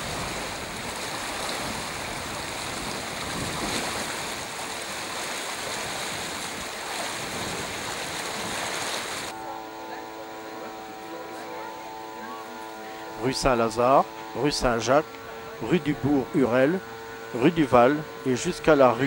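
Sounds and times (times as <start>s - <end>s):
floodwater rushing: 0.0s - 11.1s, 11.7s - 19.0s.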